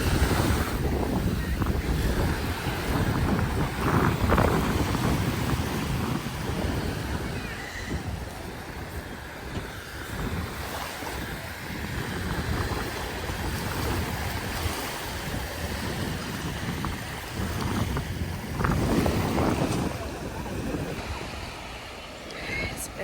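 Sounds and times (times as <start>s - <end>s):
sea surf washing onto beach: 0.0s - 23.0s
wind buffeting microphone: 0.0s - 23.0s.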